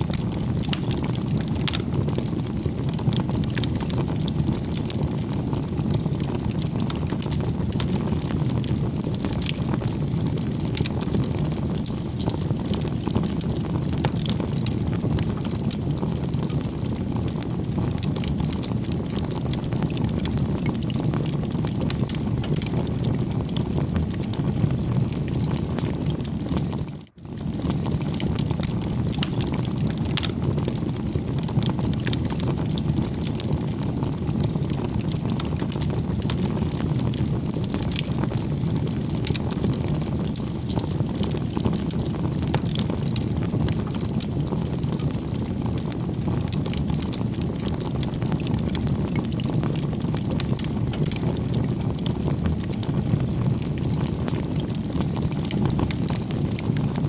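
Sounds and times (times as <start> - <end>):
campfire flames rushing: 0.0 - 57.0
wood crackling and popping: 0.0 - 57.0.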